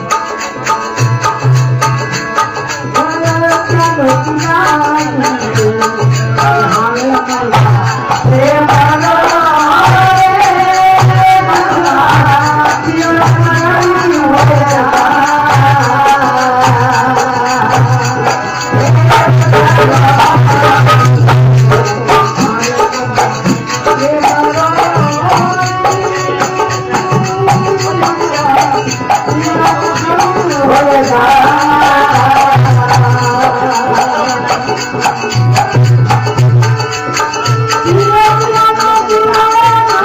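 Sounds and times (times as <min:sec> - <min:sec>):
folk devotional melody: 0:00.0 - 0:40.0
rattling percussion: 0:00.0 - 0:40.0.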